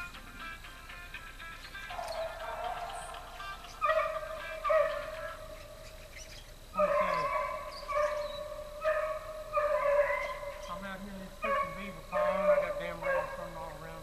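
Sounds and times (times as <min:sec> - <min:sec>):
hunting dogs baying: 0:01.7 - 0:14.0.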